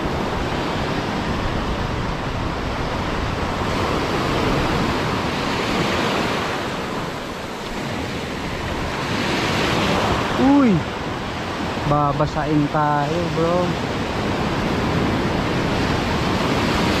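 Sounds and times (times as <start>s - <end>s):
sea surf breaking: 0.0s - 17.0s.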